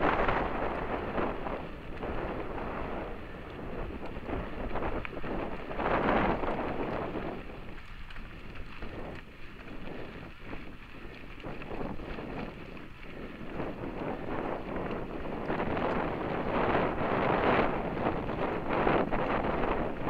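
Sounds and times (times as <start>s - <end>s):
tyres rumbling on dirt: 0.0s - 20.0s
wind buffeting microphone: 0.0s - 20.0s.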